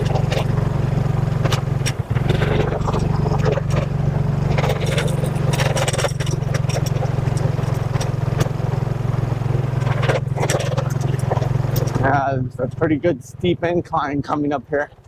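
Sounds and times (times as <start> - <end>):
clicks and knocks from rough road: 0.0 - 15.0
motorcycle engine running: 0.0 - 15.0.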